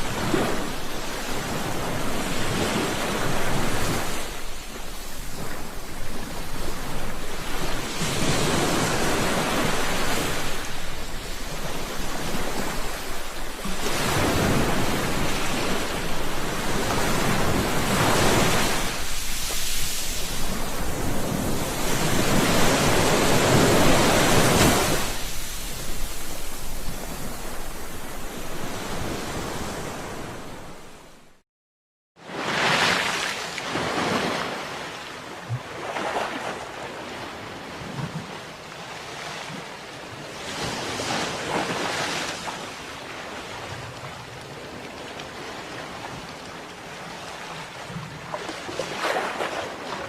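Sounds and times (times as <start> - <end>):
waves breaking on shore: 0.0 - 31.4, 32.2 - 50.0.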